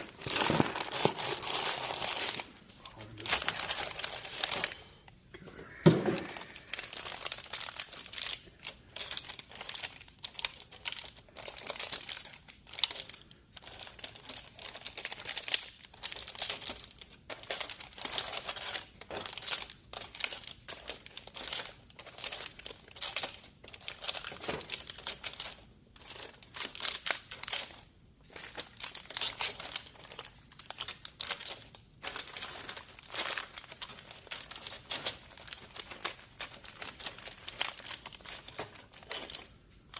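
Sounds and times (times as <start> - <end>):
chip bags crinkling: 0.0 - 39.9.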